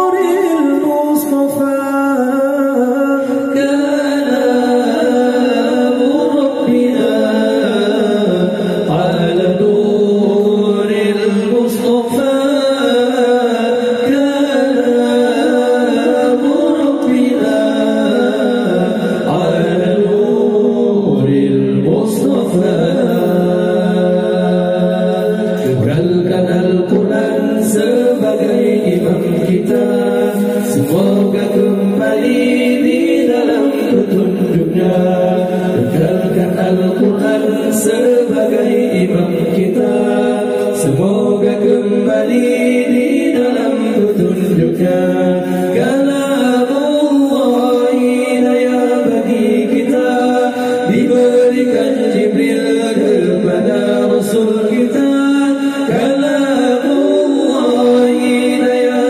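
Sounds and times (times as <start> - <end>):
men singing a cappella: 0.0 - 59.0.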